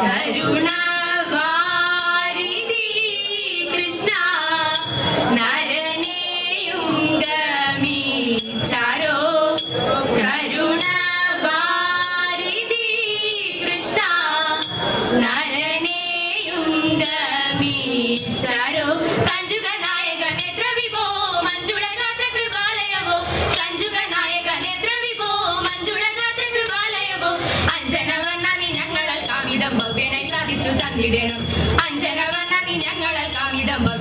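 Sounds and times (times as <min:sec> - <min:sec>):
women singing: 0:00.0 - 0:34.0.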